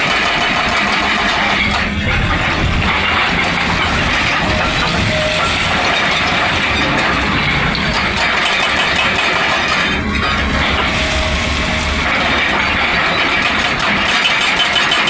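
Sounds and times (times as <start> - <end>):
diesel engine under load: 0.0 - 15.0
hydraulic hammer clatter: 0.0 - 15.0.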